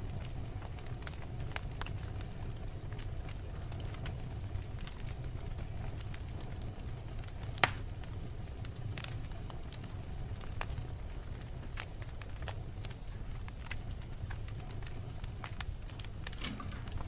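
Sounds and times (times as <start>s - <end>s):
burning logs crackling: 0.0s - 17.0s
low rumble of flames: 0.0s - 17.0s.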